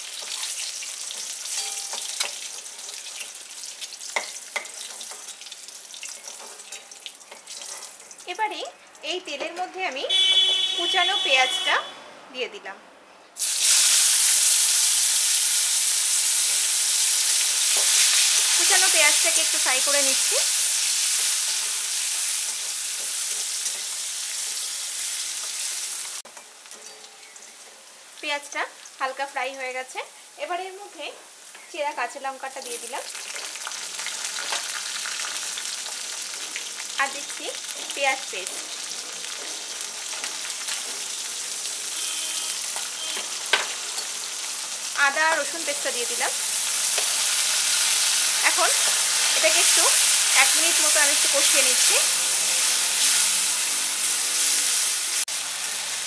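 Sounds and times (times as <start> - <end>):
eggs sizzling in hot oil: 0.0 - 9.4, 13.4 - 56.0.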